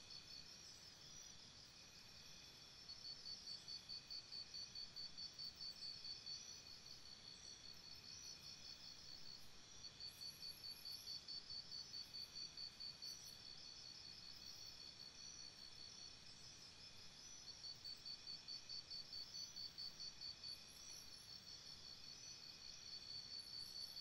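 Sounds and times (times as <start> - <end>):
insect chirping: 0.0 - 24.0.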